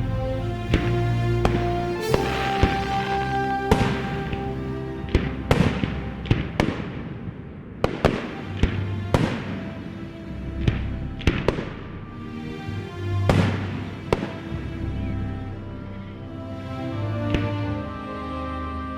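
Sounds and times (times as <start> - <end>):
background music: 0.0 - 18.9.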